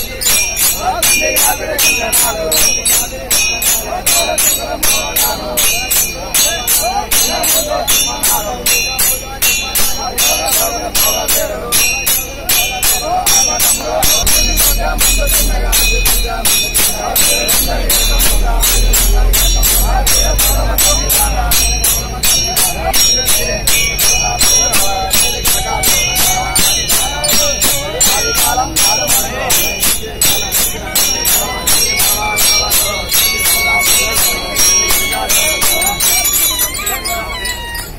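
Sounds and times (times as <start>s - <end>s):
metallic bells and clashing percussion: 0.0s - 37.9s.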